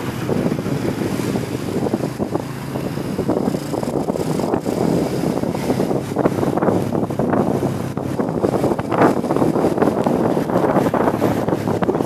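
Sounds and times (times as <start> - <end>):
motorbike engine running: 0.0 - 12.0
road noise: 0.0 - 12.0
wind rushing over microphone: 0.0 - 12.0.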